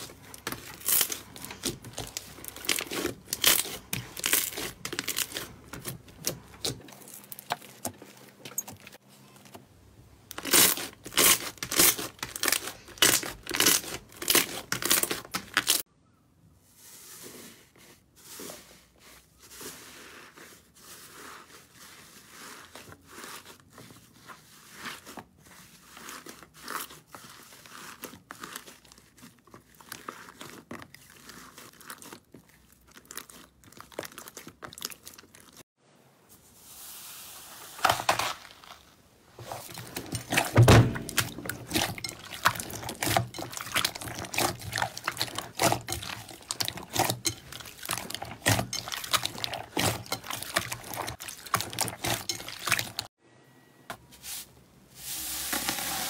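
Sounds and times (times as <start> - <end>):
slime squelching and crackling: 0.0 - 9.1, 10.2 - 15.9, 18.3 - 35.6, 37.8 - 53.1.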